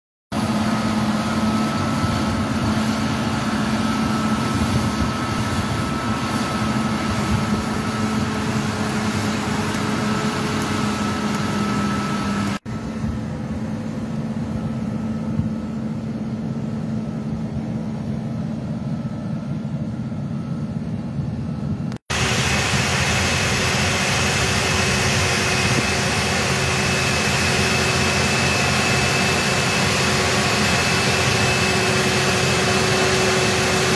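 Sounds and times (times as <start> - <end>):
constant high whine: 0.3 - 33.9
tractor diesel engines droning: 0.4 - 19.0, 22.1 - 33.9.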